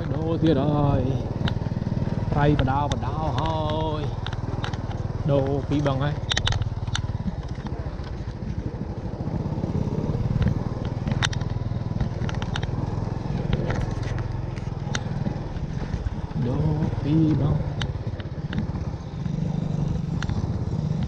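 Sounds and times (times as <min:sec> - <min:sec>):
clicks and knocks on bumpy track: 0:00.0 - 0:21.0
small motorcycle engine running: 0:00.0 - 0:21.0.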